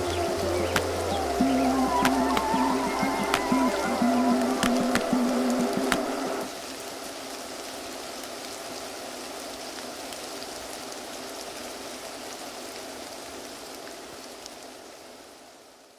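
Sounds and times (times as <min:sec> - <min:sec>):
steady hiss: 0:00.0 - 0:15.9.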